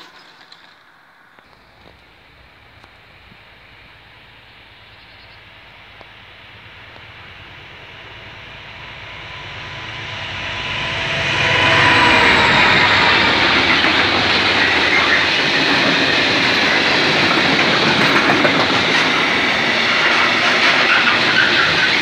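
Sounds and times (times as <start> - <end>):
diesel locomotive engine: 0.0 - 22.0
wheel-on-rail noise: 0.0 - 22.0.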